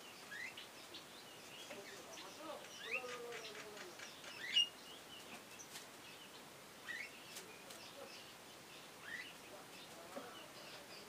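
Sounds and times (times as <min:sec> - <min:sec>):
bird chirps and calls: 0:00.0 - 0:11.0.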